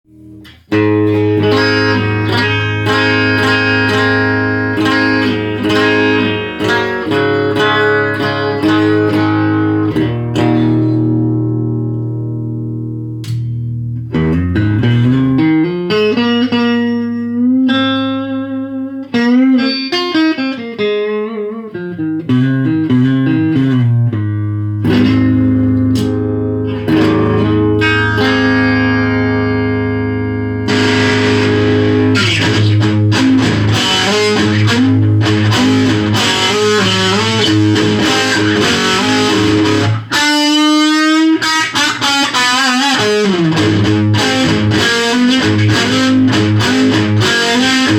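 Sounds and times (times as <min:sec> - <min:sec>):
electric guitar playing: 0:00.1 - 0:47.9.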